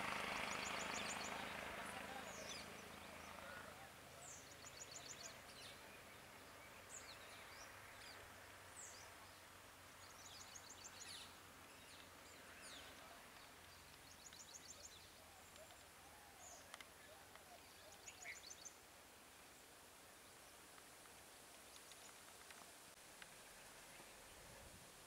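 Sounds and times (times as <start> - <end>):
quiet outdoor ambience: 0.0 - 25.0.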